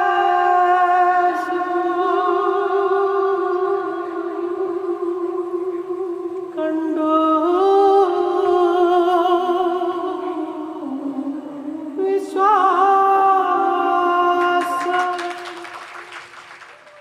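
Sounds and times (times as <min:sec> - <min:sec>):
voice singing with vibrato: 0:00.0 - 0:15.7.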